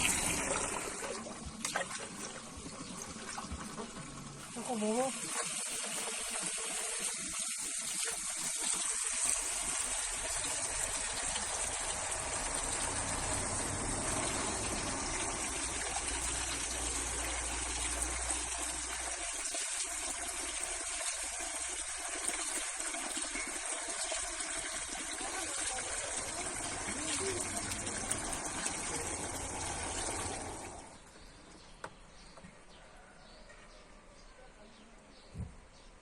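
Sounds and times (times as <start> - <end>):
water running: 0.0 - 31.0.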